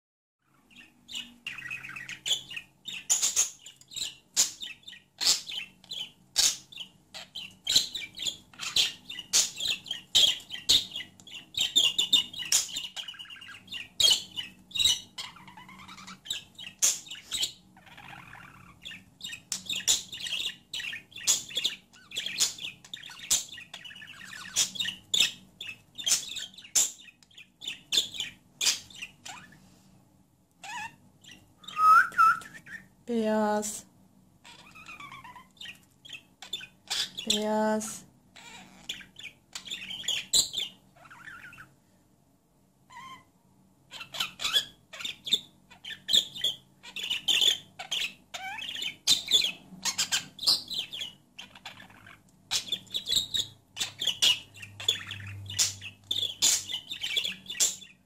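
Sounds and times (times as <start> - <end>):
budgerigar warbling and chattering: 0.5 - 29.5, 30.6 - 32.9, 34.4 - 37.6, 38.3 - 41.7, 43.9 - 58.0.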